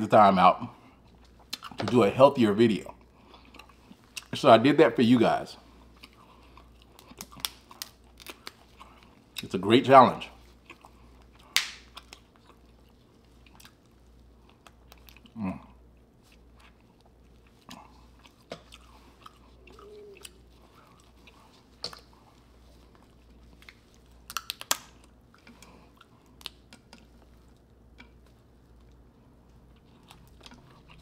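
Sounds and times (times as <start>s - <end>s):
close chewing and biting: 1.0s - 1.8s, 5.8s - 9.5s, 10.4s - 31.0s.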